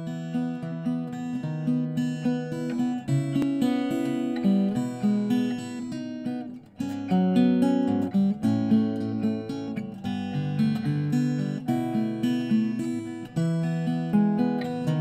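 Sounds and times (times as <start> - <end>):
guitar notes and chords: 0.0 - 15.0.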